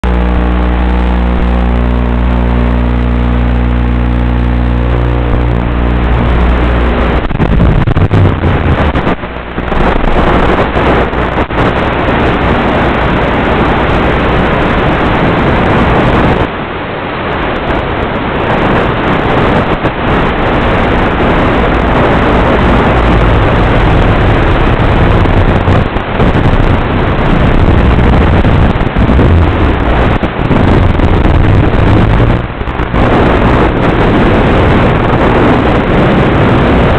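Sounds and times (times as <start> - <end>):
electric motor and propeller whine: 0.0 - 16.6, 20.3 - 36.9
rush of airflow: 0.0 - 36.9.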